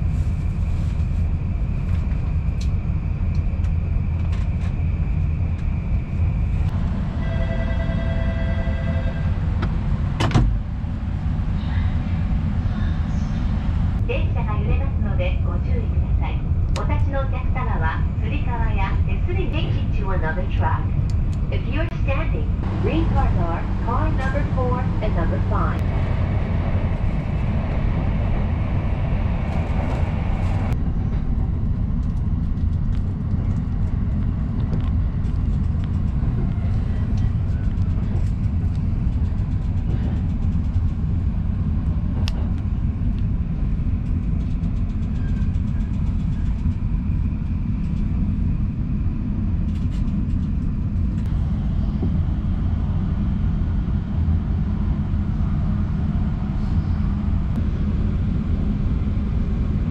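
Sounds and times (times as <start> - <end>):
train cabin low rumble: 0.0 - 59.9.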